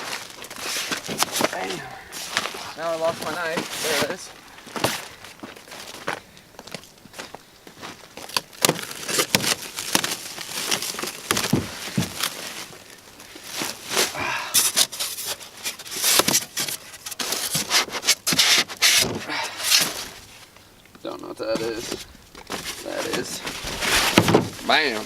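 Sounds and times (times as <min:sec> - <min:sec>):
packaging crinkling and rustling: 0:00.0 - 0:06.9, 0:07.8 - 0:20.5, 0:21.7 - 0:25.0.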